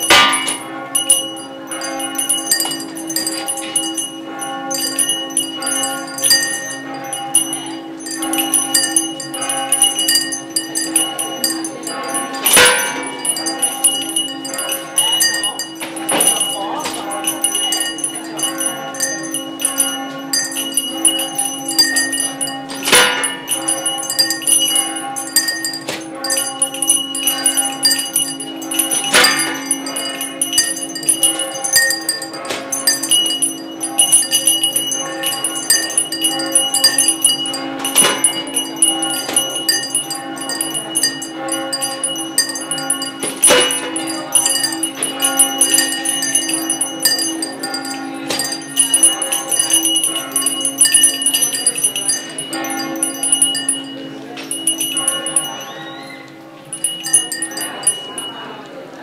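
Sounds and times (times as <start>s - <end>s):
steady low tone: 0.0s - 58.8s
bells ringing together: 0.0s - 59.0s.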